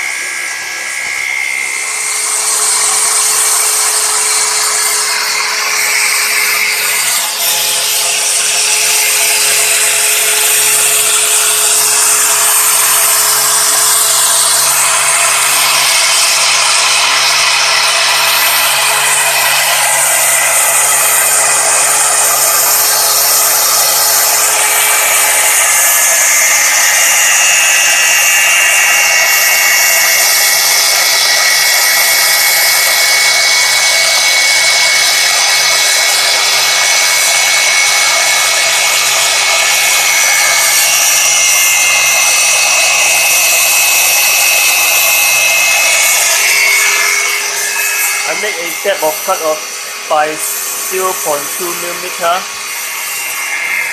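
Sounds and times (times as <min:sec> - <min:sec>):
angle grinder cutting metal: 0:00.0 - 0:53.9.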